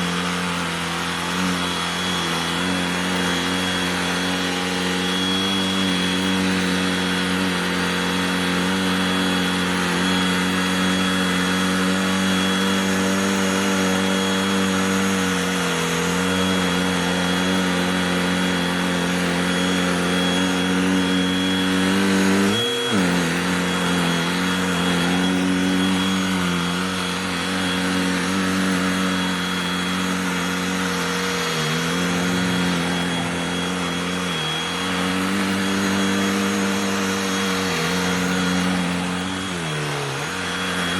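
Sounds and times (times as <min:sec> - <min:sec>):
handheld vacuum motor whining: 0:00.0 - 0:40.9.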